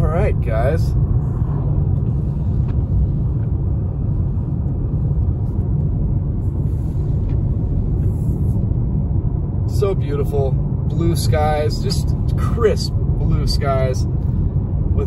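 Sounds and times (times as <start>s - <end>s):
car driving on wet highway: 0.0s - 15.0s.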